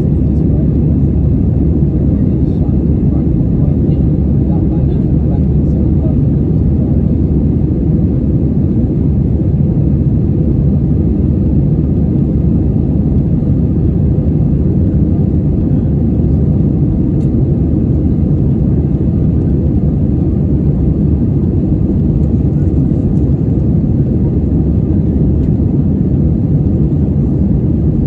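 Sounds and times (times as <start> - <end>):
jet engine rumble in cabin: 0.0 - 28.0.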